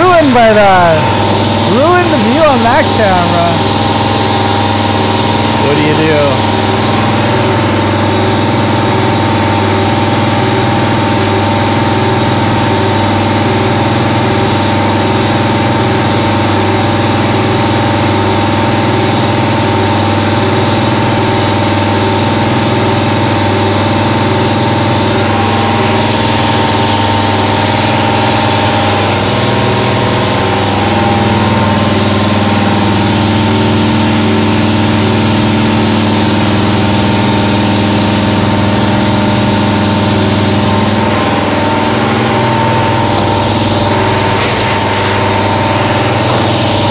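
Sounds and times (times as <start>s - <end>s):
milling machine cutting metal: 0.0s - 46.9s.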